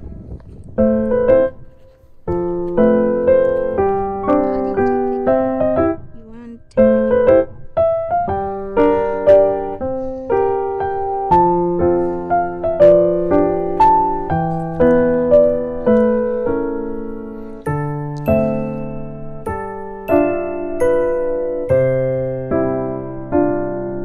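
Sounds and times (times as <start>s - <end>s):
piano music: 0.7s - 24.0s.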